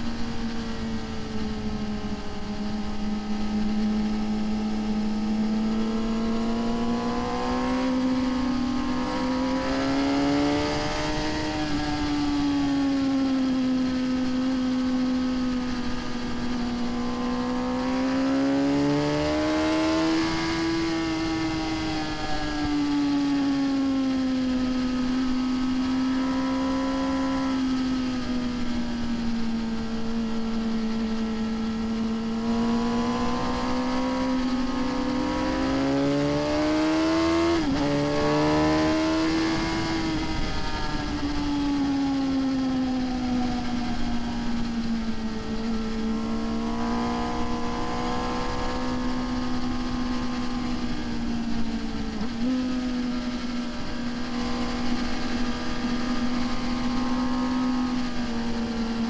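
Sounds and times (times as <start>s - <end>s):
motorcycle engine at high revs: 0.0s - 59.0s
wind noise: 0.0s - 59.0s.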